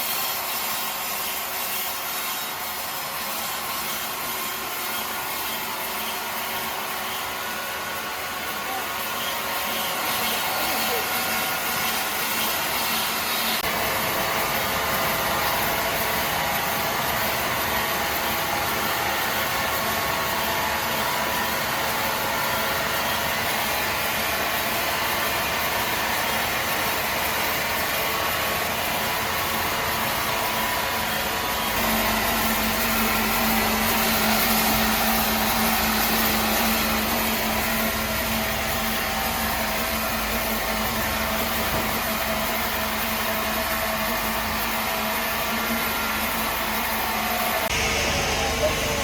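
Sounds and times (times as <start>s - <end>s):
machine running: 0.0s - 49.0s.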